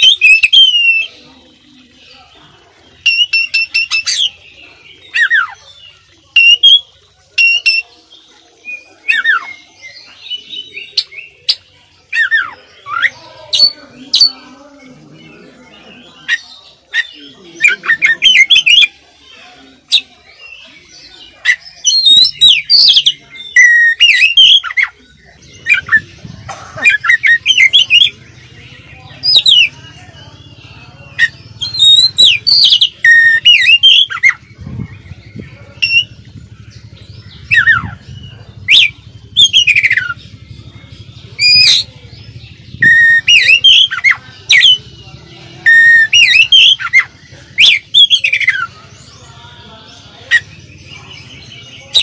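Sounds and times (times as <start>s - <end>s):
magpie-robin singing: 0.0s - 52.0s.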